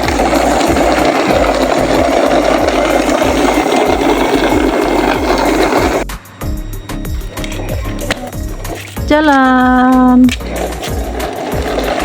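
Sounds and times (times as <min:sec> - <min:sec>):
toy truck motor whirring: 0:00.0 - 0:06.1, 0:06.8 - 0:12.0
background music with low beat: 0:00.0 - 0:12.0.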